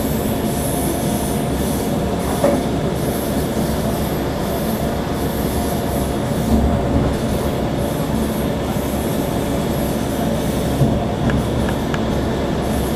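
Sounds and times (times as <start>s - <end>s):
train rumbling along track: 0.0s - 12.9s.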